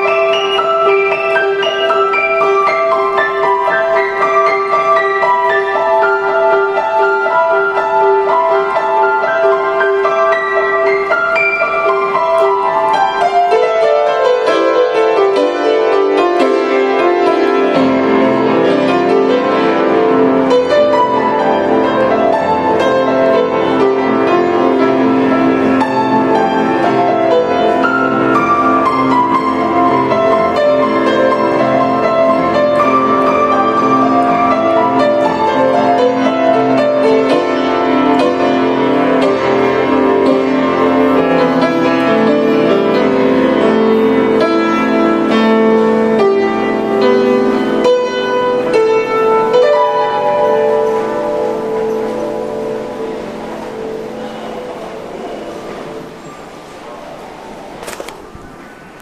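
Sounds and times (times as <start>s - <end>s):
grand piano playing: 0.0s - 59.0s.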